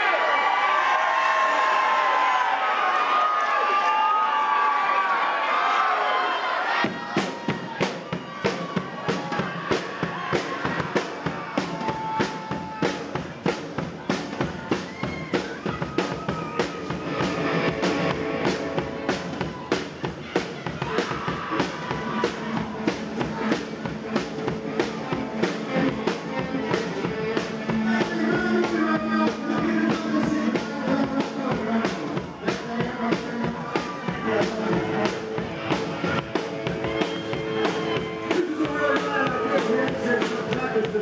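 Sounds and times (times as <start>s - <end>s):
rock band playing live: 6.7s - 41.0s
drum kit beat: 6.8s - 41.0s.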